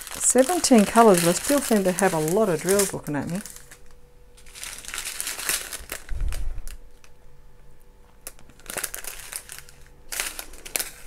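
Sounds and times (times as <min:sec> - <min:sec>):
plastic bags crinkling: 0:00.0 - 0:07.2, 0:08.0 - 0:11.0.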